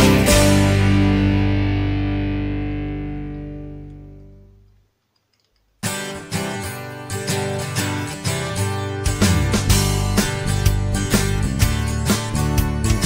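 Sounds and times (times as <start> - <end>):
held guitar chord: 0.0 - 4.7, 6.0 - 13.0
plucked guitar notes: 0.0 - 4.7, 5.8 - 13.0.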